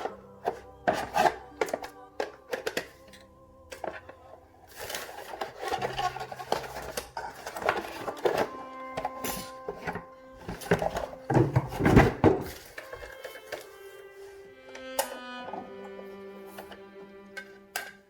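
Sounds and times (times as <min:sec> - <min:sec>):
items rustling while handled: 0:00.0 - 0:14.5
background music with held tones: 0:00.0 - 0:18.0.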